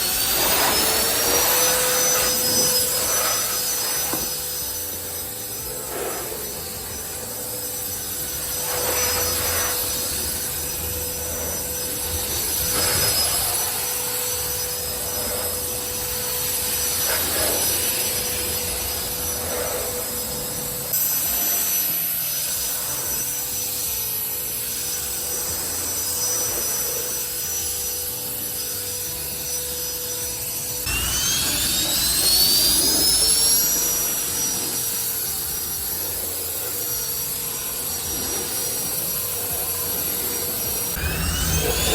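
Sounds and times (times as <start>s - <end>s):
blower fan whine and air rush: 0.0s - 41.9s.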